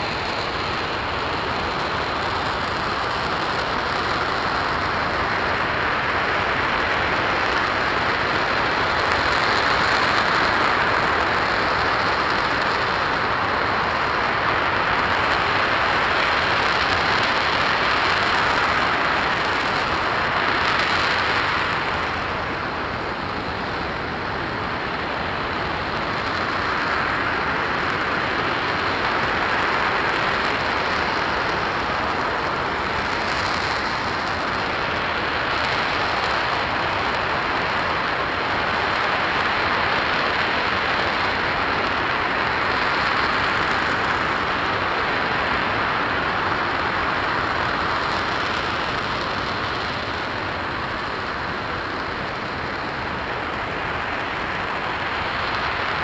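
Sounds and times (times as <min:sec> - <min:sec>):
rocket engine roaring: 0:00.0 - 0:56.0.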